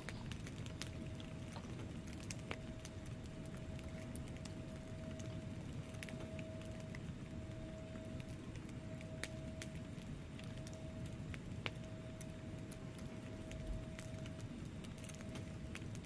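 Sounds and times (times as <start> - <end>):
flames rumbling: 0.0 - 16.0
wood fire crackling: 0.0 - 16.0.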